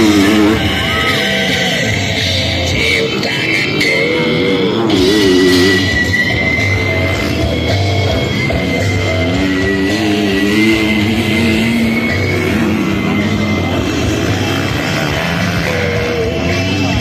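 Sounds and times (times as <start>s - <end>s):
music with low beat: 0.0s - 17.0s.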